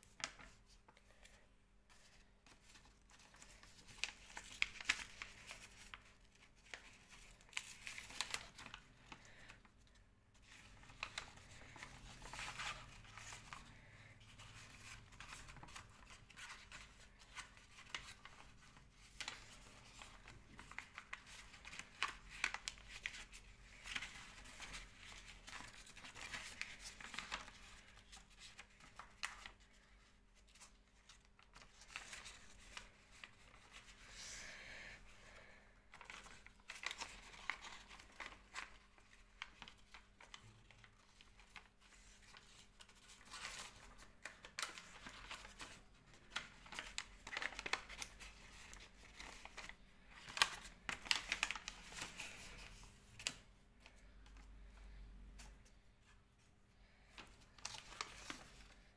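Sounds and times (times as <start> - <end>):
paper rustling and crinkling: 0.0 - 34.6, 35.3 - 58.9.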